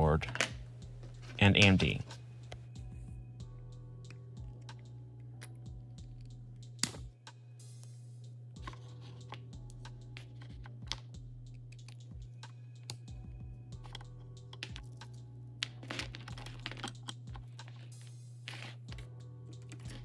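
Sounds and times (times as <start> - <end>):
soft background music: 0.0 - 20.0
steady low hum: 0.0 - 20.0.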